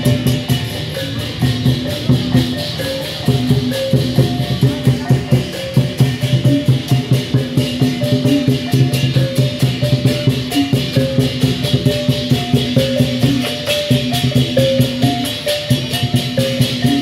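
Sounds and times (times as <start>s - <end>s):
shaken and struck percussion: 0.0s - 17.0s
street procession melody: 0.0s - 17.0s.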